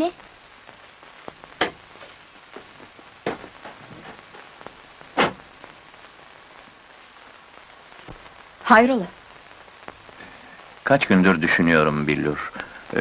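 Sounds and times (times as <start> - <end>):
film soundtrack hiss: 0.0 - 13.0.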